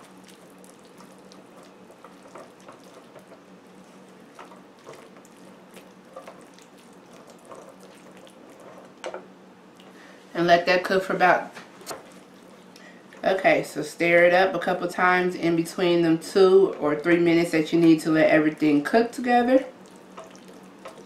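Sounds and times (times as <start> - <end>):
spatula stirring wet mixture: 0.0 - 10.0, 11.9 - 21.0
steady low hum: 0.0 - 21.0.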